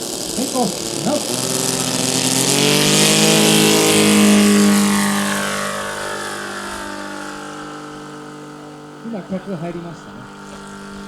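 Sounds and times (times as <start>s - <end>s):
model plane engine flying past: 0.0s - 11.0s.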